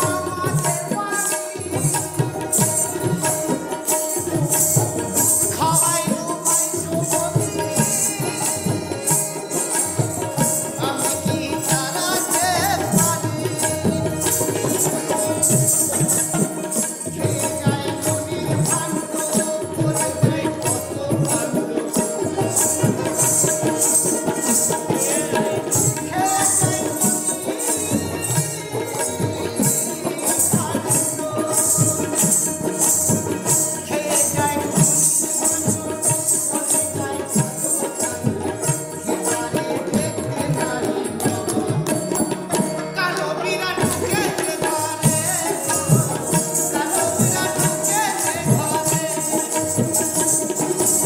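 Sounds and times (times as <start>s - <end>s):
hand drums keeping a beat: 0.0s - 51.0s
harmonium: 0.0s - 51.0s
jingle of small percussion: 0.0s - 51.0s.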